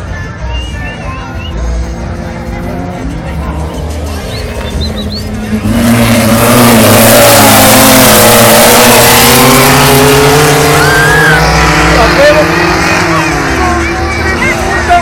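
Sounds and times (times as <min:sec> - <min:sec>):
race car engine at high revs: 0:01.4 - 0:15.0.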